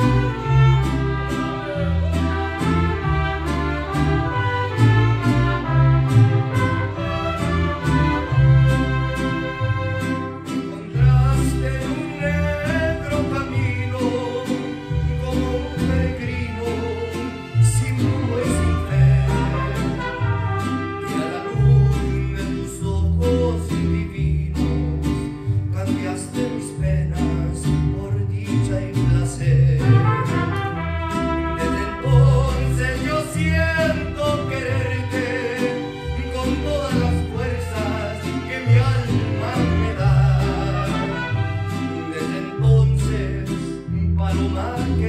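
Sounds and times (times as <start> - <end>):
man singing: 0.0 - 45.0
mariachi ensemble playing: 0.0 - 45.0.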